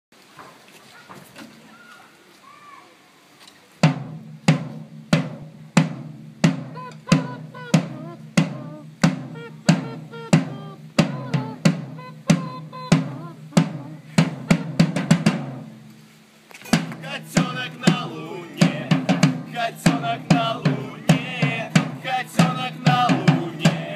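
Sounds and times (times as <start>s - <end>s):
drum struck with drumsticks: 3.8s - 15.7s, 16.6s - 23.9s.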